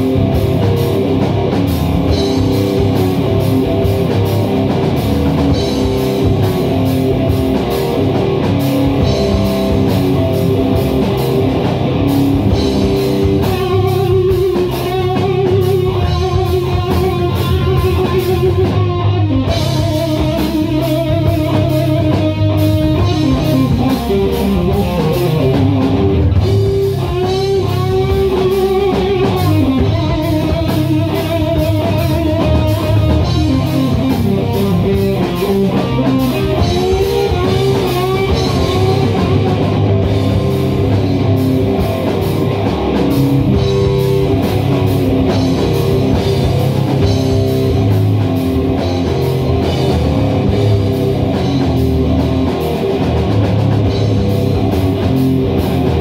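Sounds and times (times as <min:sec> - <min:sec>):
rock band playing instrumental: 0:00.0 - 0:56.0.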